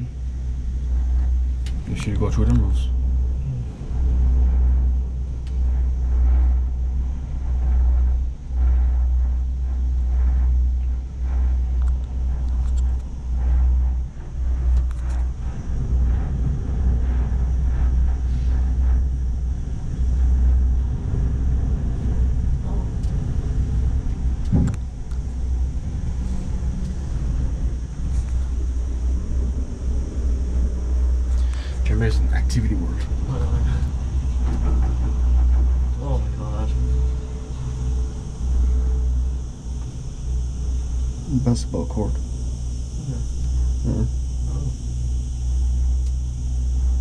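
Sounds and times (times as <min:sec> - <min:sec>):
gondola rumble: 0:00.0 - 0:47.0.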